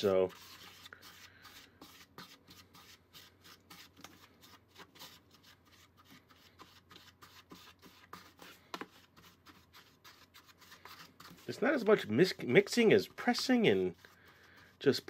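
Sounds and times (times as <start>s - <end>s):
spatula rubbing dough in bowl: 0.0s - 15.0s.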